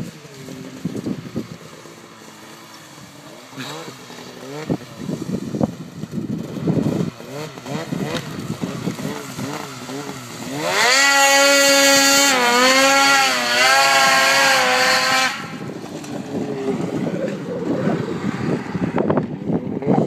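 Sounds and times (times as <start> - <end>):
wind noise on microphone: 0.0 - 1.8, 4.5 - 20.0
snowmobile engine at high revs: 0.0 - 20.0.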